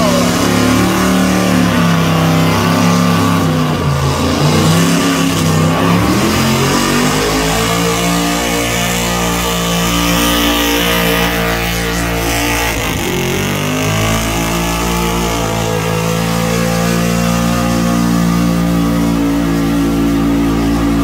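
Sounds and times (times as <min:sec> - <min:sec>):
vehicle engine revving hard: 0:00.0 - 0:21.0.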